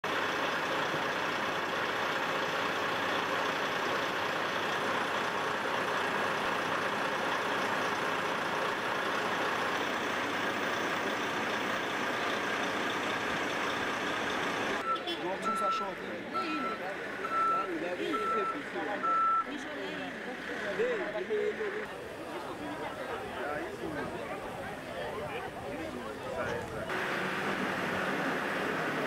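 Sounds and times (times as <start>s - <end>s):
heavy vehicle engine running: 0.0s - 25.0s, 25.8s - 29.0s.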